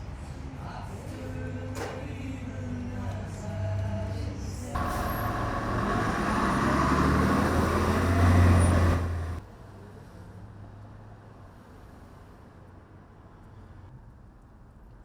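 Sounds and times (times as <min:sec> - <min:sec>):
road traffic with engine rumble: 0:00.0 - 0:15.0.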